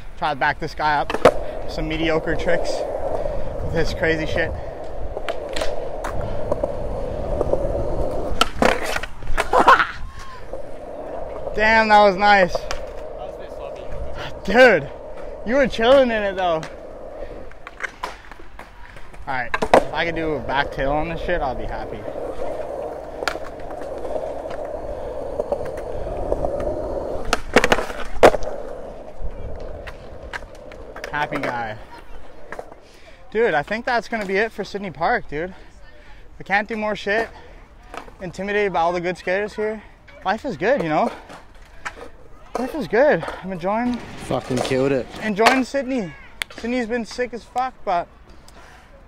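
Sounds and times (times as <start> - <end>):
skateboard wheels rolling on concrete: 0.0 - 49.0
skateboard clacking on concrete: 0.8 - 32.8, 40.1 - 47.7.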